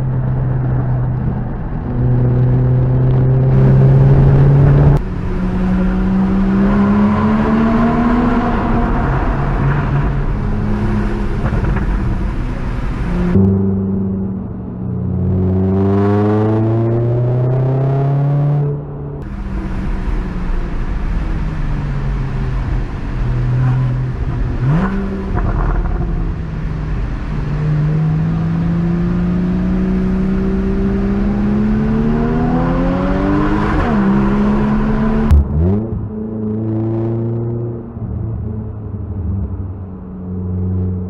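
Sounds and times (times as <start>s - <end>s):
car engine revving: 0.0s - 39.0s
road and wind noise: 0.0s - 41.0s.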